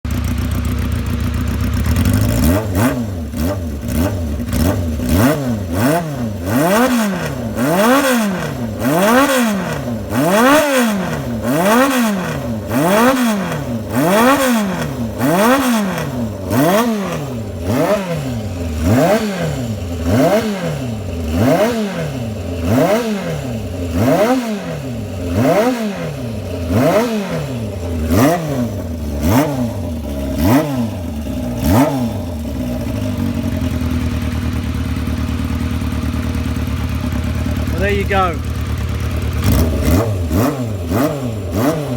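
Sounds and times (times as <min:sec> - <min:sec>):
motorcycle engine idling and blipping: 0:00.0 - 0:41.9.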